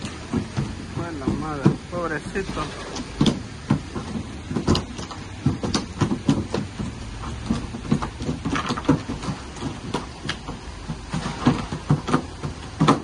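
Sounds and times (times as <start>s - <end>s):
rushing water: 0.0s - 13.0s
water splashing: 0.0s - 13.0s.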